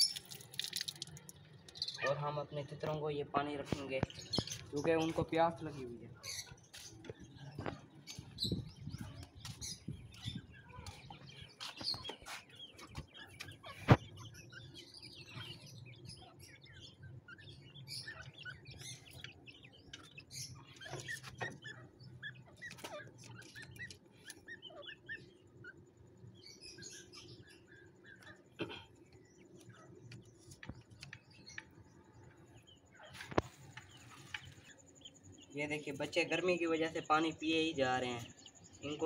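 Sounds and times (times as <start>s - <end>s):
chicks chirping: 3.6s - 39.0s.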